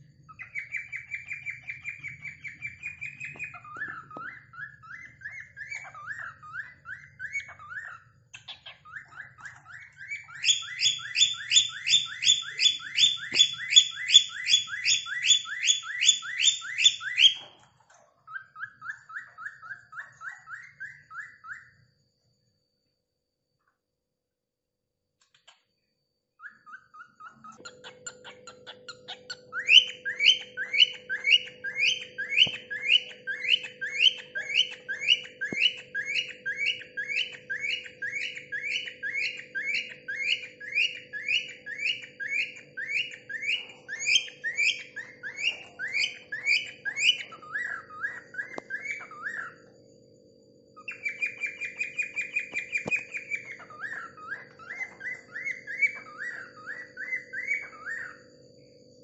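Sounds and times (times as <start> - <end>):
cockatiel whistling chirps: 0.3 - 21.8, 26.4 - 49.7, 50.8 - 58.2.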